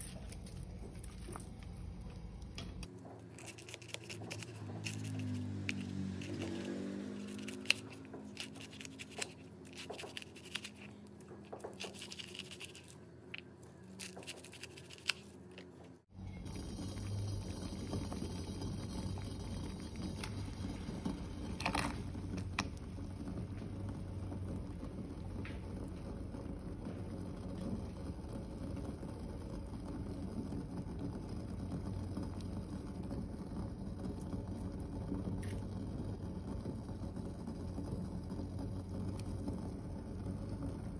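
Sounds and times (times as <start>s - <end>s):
pot of water boiling: 0.0s - 13.3s, 16.0s - 40.9s.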